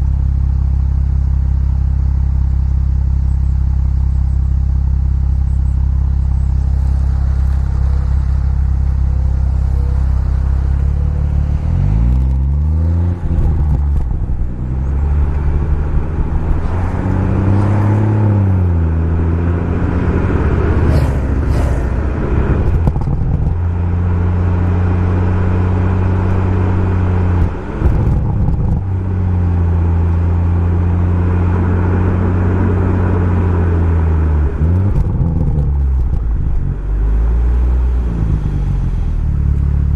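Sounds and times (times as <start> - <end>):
car engine revving: 5.4 - 39.9.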